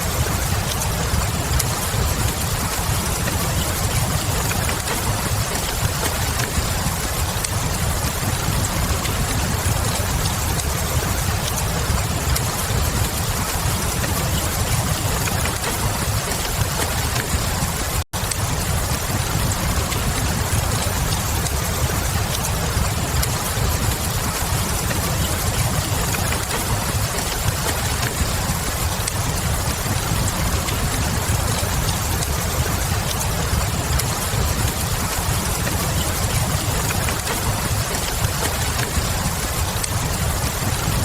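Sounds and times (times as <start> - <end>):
faint wood fire crackle: 0.0 - 41.0
heavy rain rumble: 0.0 - 41.0.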